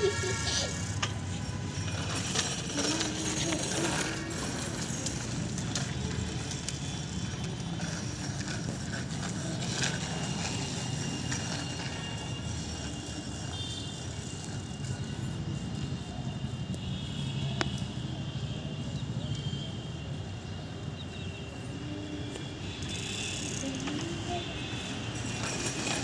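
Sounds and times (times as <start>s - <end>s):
bicycle rolling on tiled floor: 0.0s - 26.0s.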